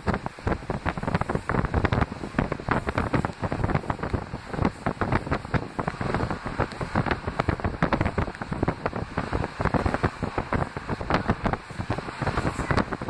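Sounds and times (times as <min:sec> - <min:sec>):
moving train running noise: 0:00.0 - 0:13.0
wind buffeting microphone: 0:00.0 - 0:13.0.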